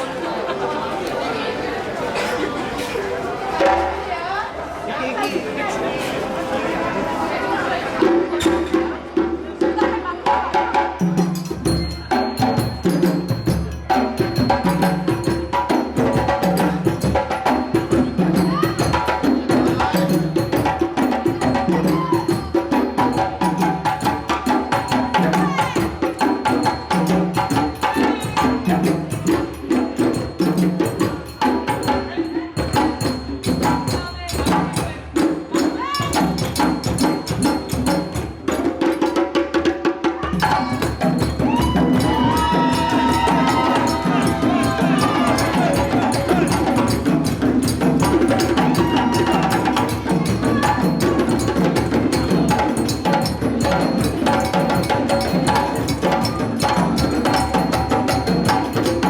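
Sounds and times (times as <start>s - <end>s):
sharp hand-drum strikes: 8.0s - 59.0s.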